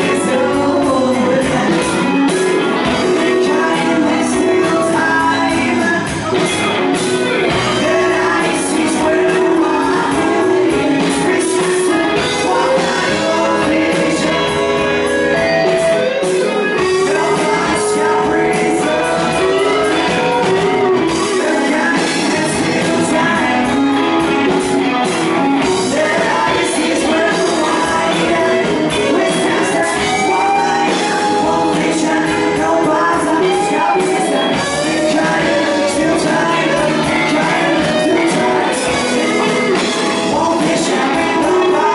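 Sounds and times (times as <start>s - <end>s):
electric guitars: 0.0s - 41.9s
live rock band playing: 0.0s - 41.9s
man singing: 0.0s - 41.9s.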